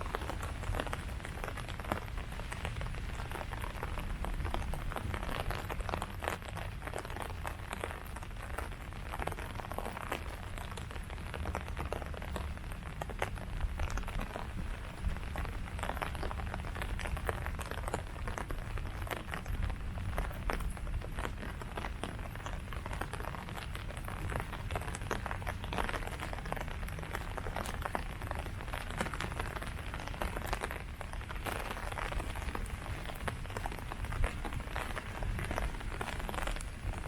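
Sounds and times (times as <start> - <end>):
rain falling on leaves: 0.0 - 37.0.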